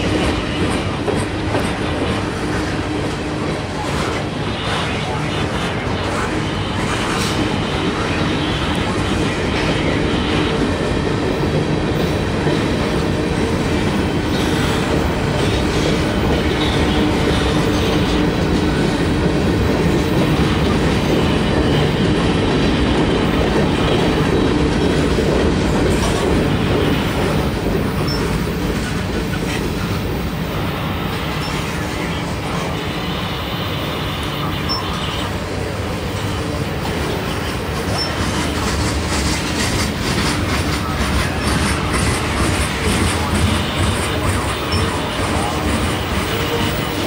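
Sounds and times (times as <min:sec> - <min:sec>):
diesel locomotive engine drone: 0:00.0 - 0:47.0
train wheels clattering on rails: 0:00.0 - 0:47.0.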